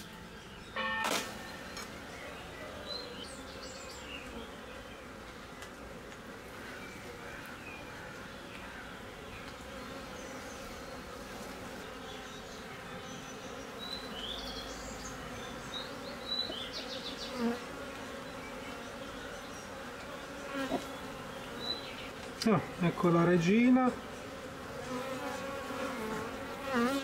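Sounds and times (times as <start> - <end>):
honeybees humming: 0.0 - 27.0.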